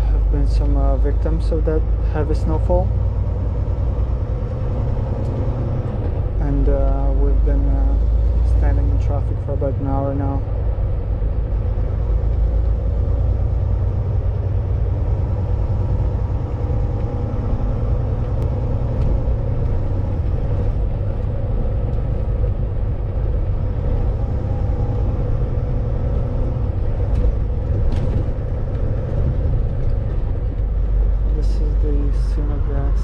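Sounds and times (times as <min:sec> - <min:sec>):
diesel truck engine rumble: 0:00.0 - 0:33.0.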